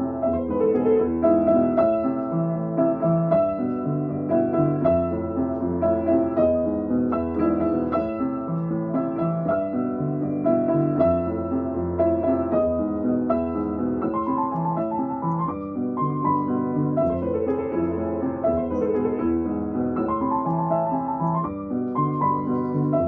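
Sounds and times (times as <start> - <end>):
gentle solo piano piece: 0.0 - 23.0.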